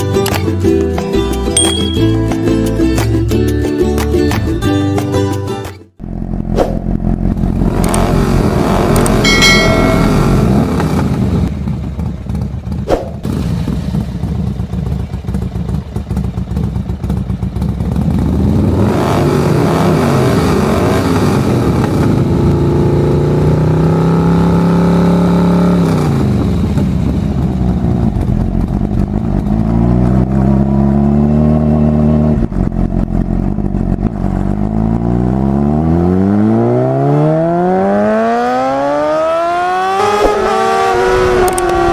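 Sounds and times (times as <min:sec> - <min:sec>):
motorcycle engine revving: 0:06.0 - 0:41.9.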